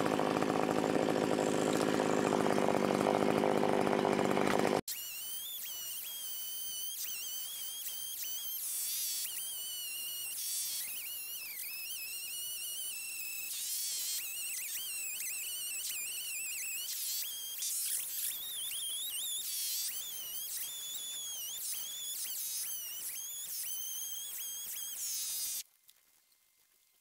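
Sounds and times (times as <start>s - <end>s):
chainsaw cutting wood: 0.0s - 25.6s.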